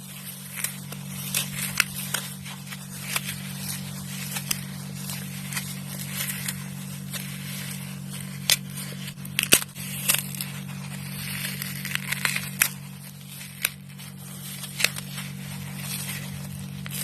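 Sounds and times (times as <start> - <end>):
floral foam crunching: 0.0 - 17.0
steady low hum: 0.0 - 17.0.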